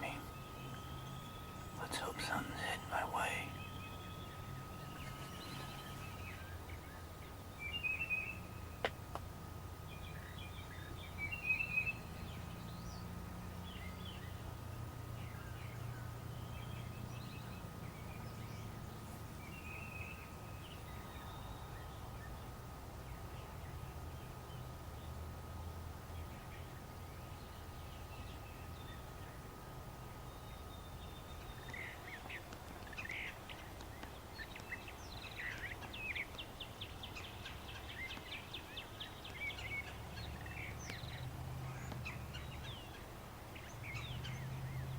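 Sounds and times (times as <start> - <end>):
songbirds chirping: 0.0 - 44.9
steady low rumble: 0.0 - 44.9.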